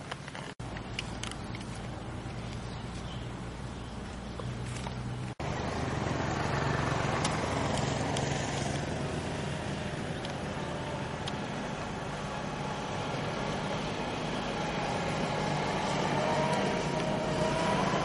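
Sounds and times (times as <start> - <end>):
outdoor background noise: 0.0 - 18.0
vehicle engine humming: 0.0 - 18.0.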